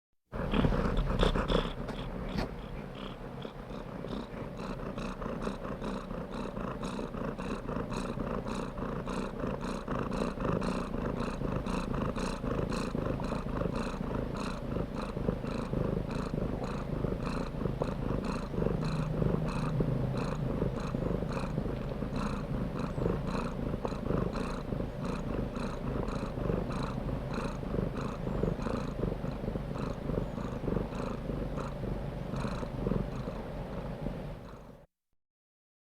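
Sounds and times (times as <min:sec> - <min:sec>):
cat purring: 0:00.3 - 0:34.9.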